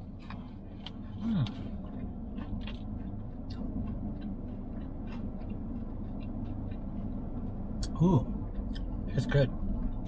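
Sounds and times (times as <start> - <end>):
chewing crispy food: 0.0 - 9.2
steady low hum: 0.0 - 10.0.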